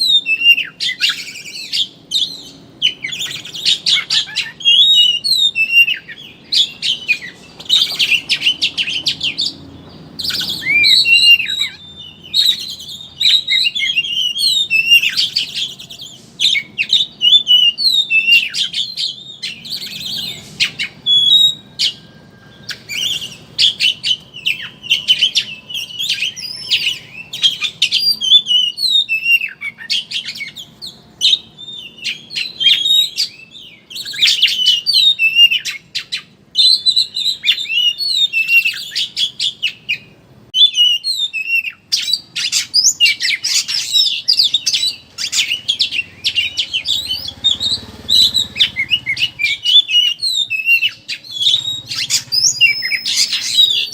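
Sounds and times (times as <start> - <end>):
bird singing rapid twittering song: 0.0 - 53.9.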